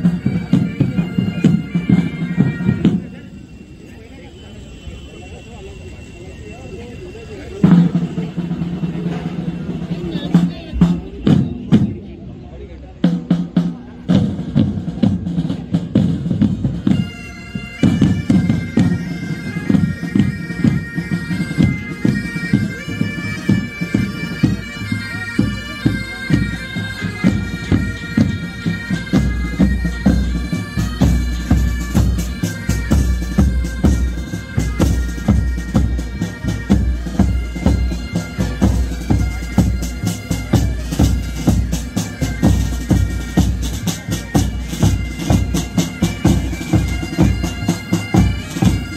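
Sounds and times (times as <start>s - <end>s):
drums beating: 0.0s - 3.3s, 7.5s - 12.3s, 12.9s - 48.9s
bagpipes melody: 0.0s - 12.1s, 13.0s - 48.9s.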